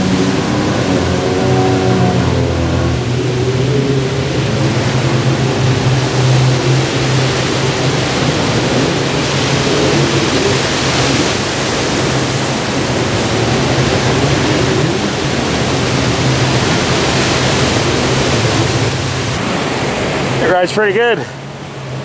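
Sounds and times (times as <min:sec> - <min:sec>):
low hum: 0:00.0 - 0:20.4
ocean surf washing ashore: 0:00.0 - 0:22.0.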